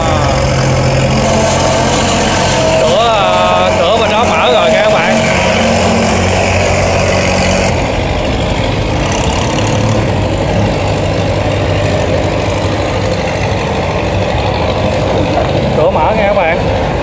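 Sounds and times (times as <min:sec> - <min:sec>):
hoist machinery humming: 0:00.0 - 0:16.0.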